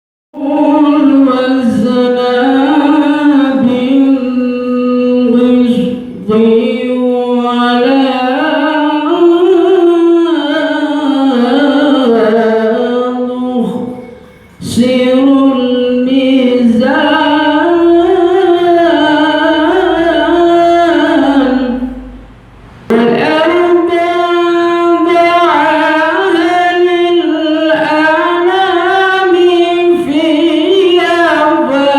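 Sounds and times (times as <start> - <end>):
man singing unaccompanied: 0.3 - 22.3, 22.9 - 31.9.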